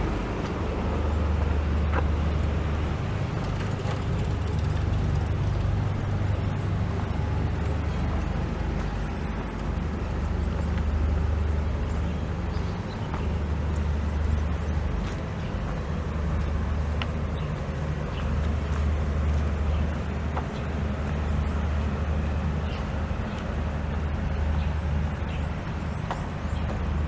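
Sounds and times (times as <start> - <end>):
city street noise: 0.0 - 27.0
motor vehicle low rumble: 0.0 - 27.0.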